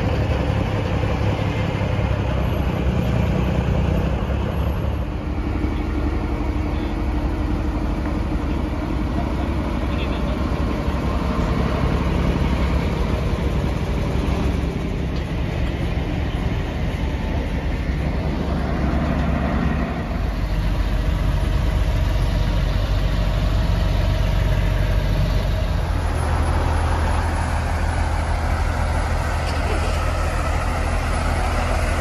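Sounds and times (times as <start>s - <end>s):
large vehicle engines idling: 0.0s - 32.0s.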